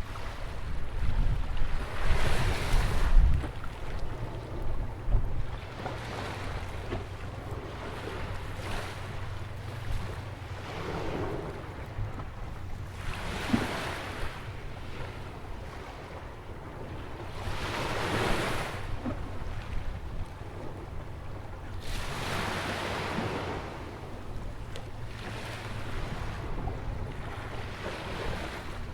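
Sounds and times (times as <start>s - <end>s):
low wind rumble on microphone: 0.0s - 28.9s
surf waves on a sandy beach: 0.0s - 28.9s.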